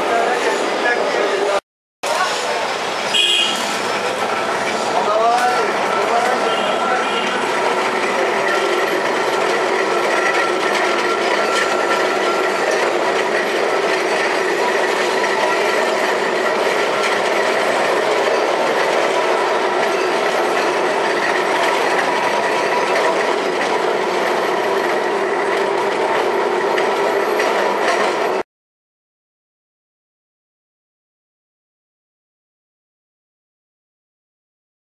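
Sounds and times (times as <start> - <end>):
tram wheels on rails: 0.0 - 28.4.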